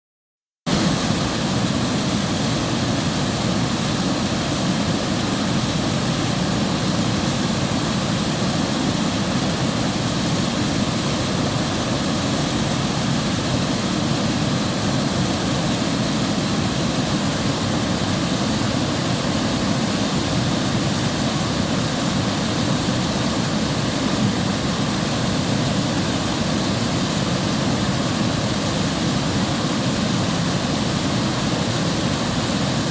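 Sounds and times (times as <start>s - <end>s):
river water rushing: 0.7s - 32.9s.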